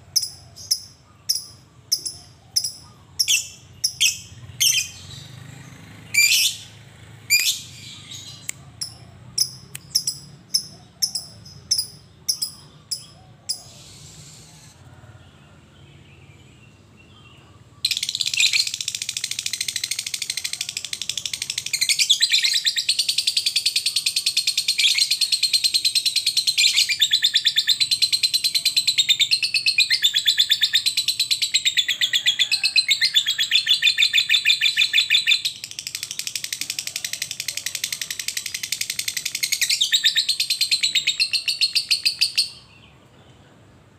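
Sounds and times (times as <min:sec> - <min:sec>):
bird chirping: 0:00.0 - 0:43.6
bird rapid chatter: 0:00.2 - 0:14.8, 0:17.8 - 0:42.7.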